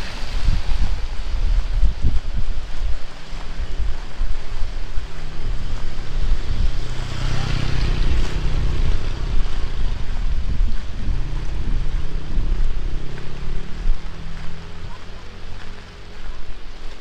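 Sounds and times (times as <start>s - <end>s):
heavy rain hissing: 0.0s - 17.0s
wind buffeting microphone: 0.0s - 17.0s.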